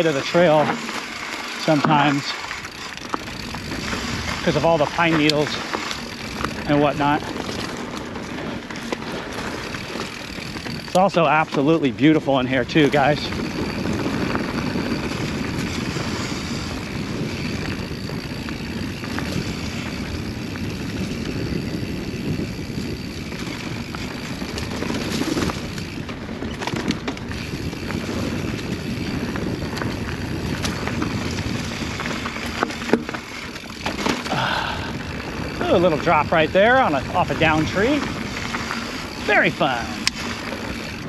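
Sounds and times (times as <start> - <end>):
bike rattling over bumps: 0.0 - 41.0
bike tyres rolling over dirt: 0.0 - 41.0
wind noise on microphone: 2.1 - 41.0.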